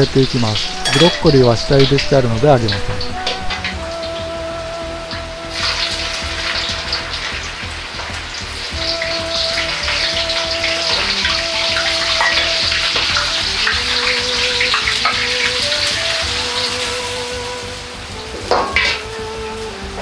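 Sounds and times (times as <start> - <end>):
simple background melody: 0.0 - 20.0
vegetables deep-frying in oil: 0.0 - 20.0.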